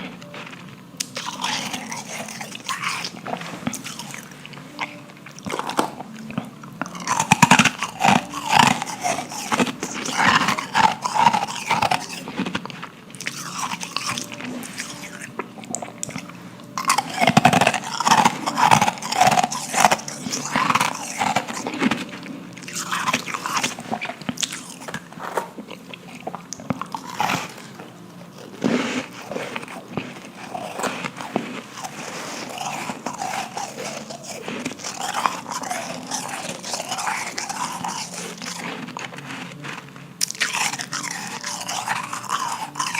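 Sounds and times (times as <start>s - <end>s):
biting and crunching ice: 0.0s - 42.9s.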